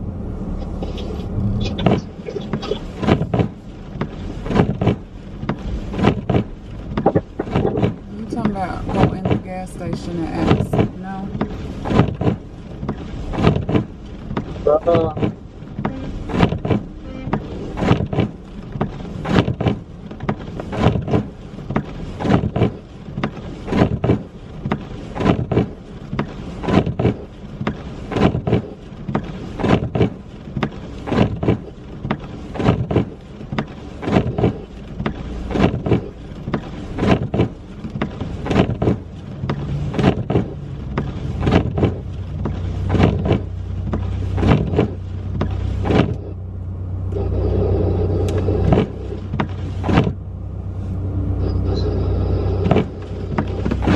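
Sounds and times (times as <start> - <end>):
low engine hum: 0.0 - 53.9.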